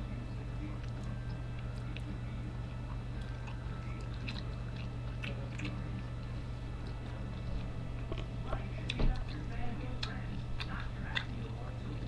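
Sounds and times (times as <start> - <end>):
steady low hum: 0.0 - 12.0
person chewing food: 0.8 - 9.4, 10.0 - 12.0.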